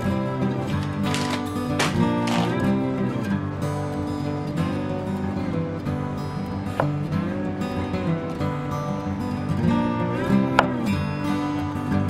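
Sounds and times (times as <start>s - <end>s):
instrumental music with plucked strings: 0.0s - 12.0s.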